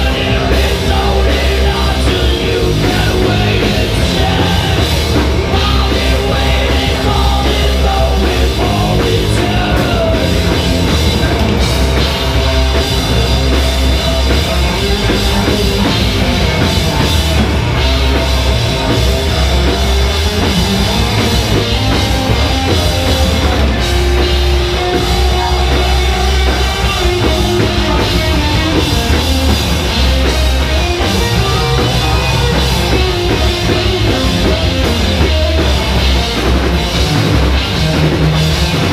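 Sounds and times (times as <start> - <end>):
bass guitar: 0.0 - 38.9
distorted electric guitar: 0.0 - 38.9
drum kit: 0.0 - 38.9.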